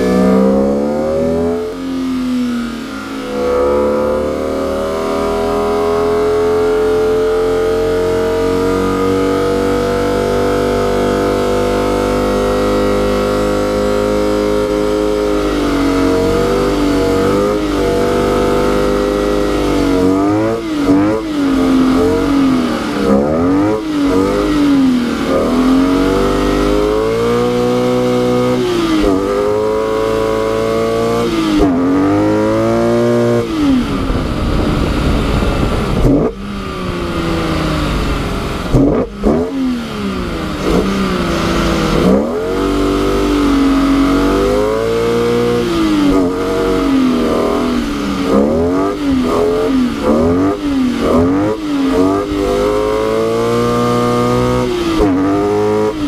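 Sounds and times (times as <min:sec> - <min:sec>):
car engine revving: 0:00.0 - 0:56.0
wind and tyres spinning on snow: 0:07.8 - 0:56.0.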